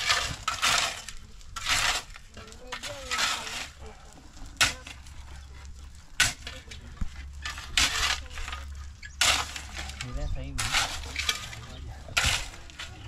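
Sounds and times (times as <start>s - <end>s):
shovel scraping through gravel: 0.0s - 13.0s.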